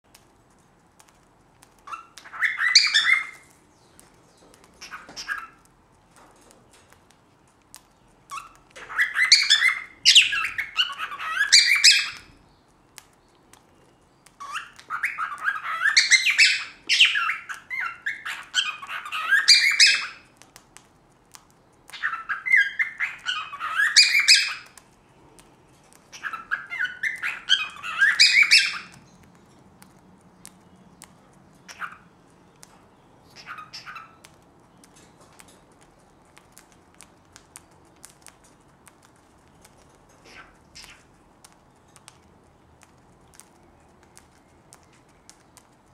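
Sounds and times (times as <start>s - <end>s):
cockatiels chattering and warbling: 1.0s - 3.5s, 4.4s - 24.9s, 25.9s - 45.9s.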